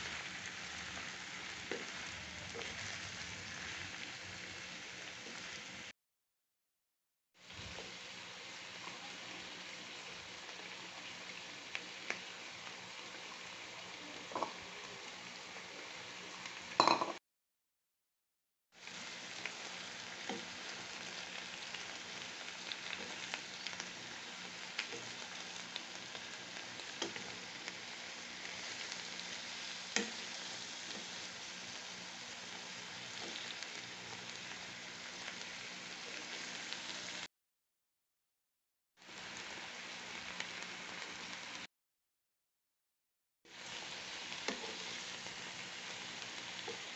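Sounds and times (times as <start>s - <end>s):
vegetables sizzling in a wok: 0.0s - 5.9s, 7.4s - 17.2s, 18.7s - 37.3s, 39.0s - 41.7s, 43.5s - 46.9s.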